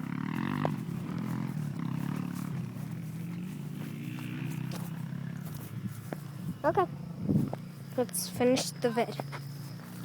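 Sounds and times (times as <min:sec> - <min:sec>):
small engine running at low revs: 0:00.0 - 0:10.0.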